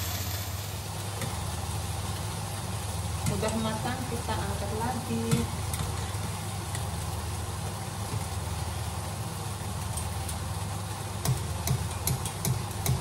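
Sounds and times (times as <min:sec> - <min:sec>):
cooker hood fan humming: 0:00.0 - 0:13.0
water boiling: 0:00.0 - 0:13.0.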